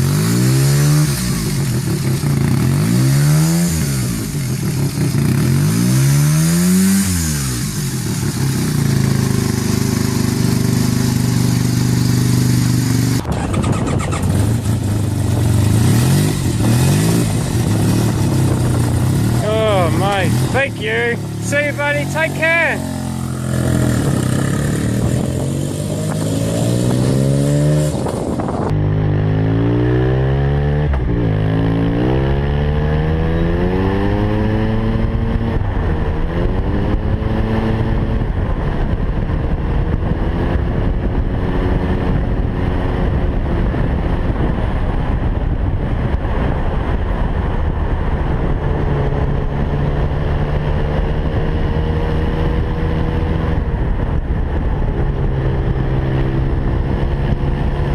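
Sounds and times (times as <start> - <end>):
motorcycle engine revving and accelerating: 0.0 - 57.9.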